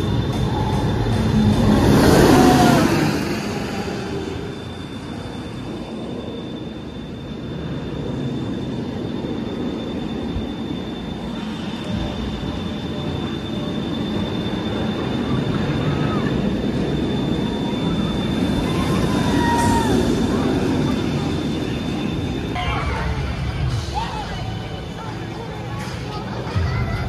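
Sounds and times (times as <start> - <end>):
roller coaster train rumbling: 0.0 - 27.0
thin high whine: 0.0 - 27.0.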